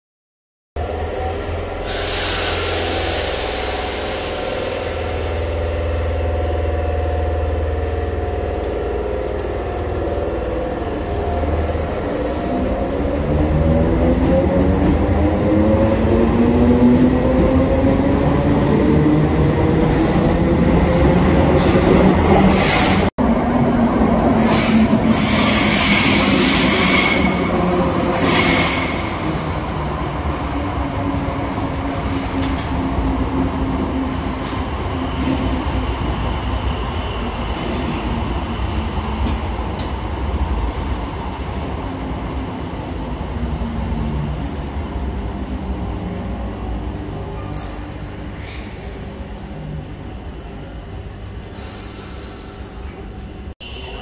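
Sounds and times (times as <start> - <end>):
train low hum: 0.8 - 54.0.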